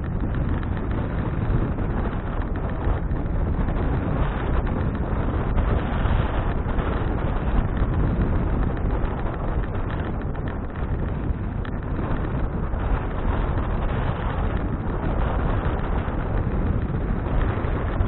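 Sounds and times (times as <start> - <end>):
road and tyre noise: 0.0 - 18.0
wind buffeting microphone: 0.0 - 18.0.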